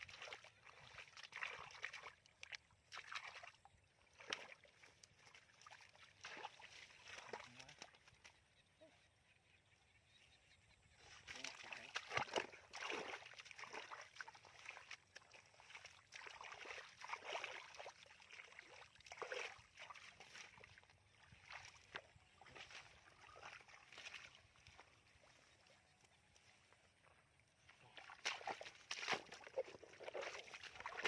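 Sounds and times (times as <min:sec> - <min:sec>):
muddy water sloshing and splashing: 0:00.0 - 0:08.6, 0:11.0 - 0:31.0.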